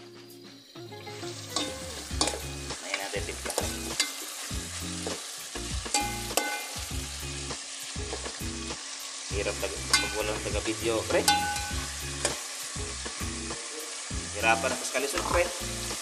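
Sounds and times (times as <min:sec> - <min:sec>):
food sizzling in a pot: 0:00.0 - 0:16.0.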